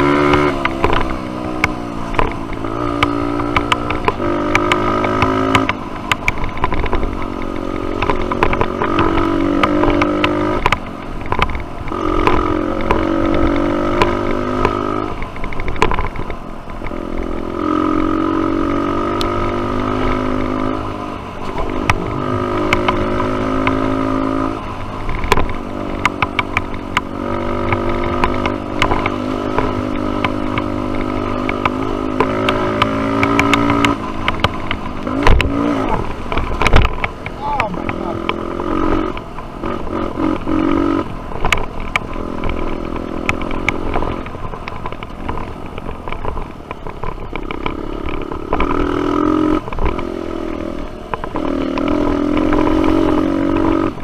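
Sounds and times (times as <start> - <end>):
dirt bike engine revving: 0.0 - 45.8, 47.2 - 54.0
sharp clicks and knocks: 0.0 - 54.0.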